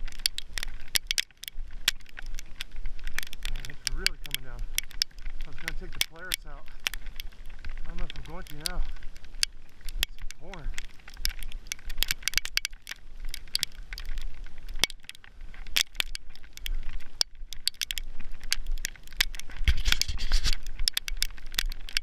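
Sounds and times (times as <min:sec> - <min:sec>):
crunching: 0:00.0 - 0:22.0
snowfall crackling and ticking: 0:00.0 - 0:22.0.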